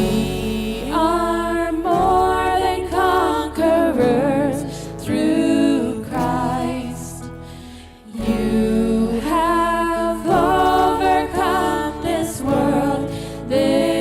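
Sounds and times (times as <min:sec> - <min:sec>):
person singing with vibrato: 0:00.0 - 0:14.0
worship band music: 0:00.0 - 0:14.0.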